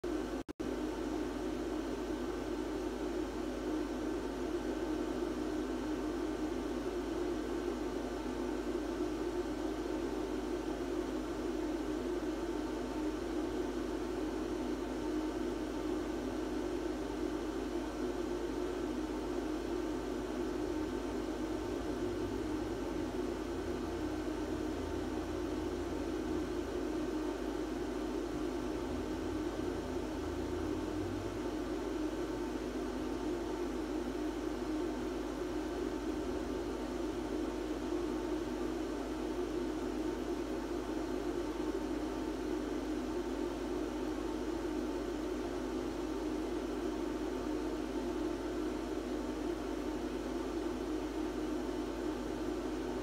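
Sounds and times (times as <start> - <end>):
electric blower fans humming: 0.0 - 53.0.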